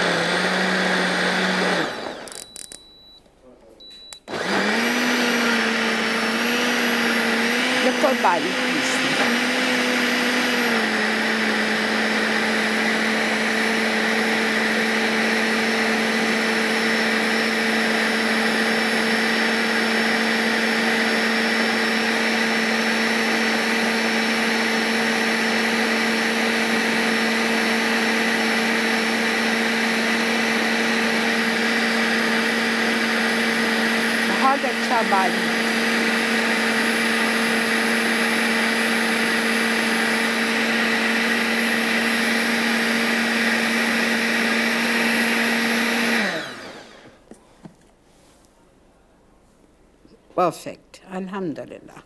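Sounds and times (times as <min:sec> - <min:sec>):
electric blender running: 0:00.0 - 0:02.5, 0:04.3 - 0:47.2.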